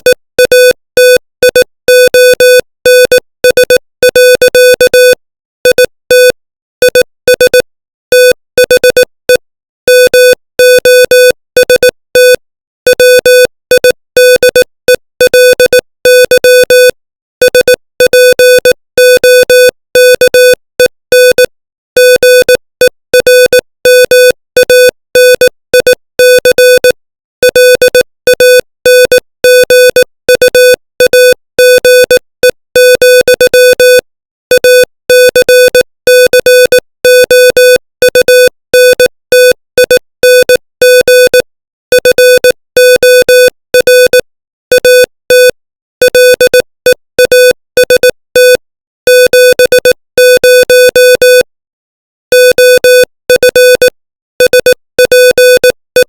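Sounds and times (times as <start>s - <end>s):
morse code beeps: 0.0s - 51.5s, 52.3s - 56.0s.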